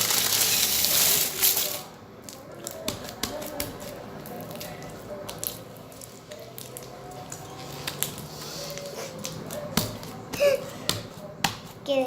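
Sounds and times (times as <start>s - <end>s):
wet slime squishes: 0.0s - 11.8s.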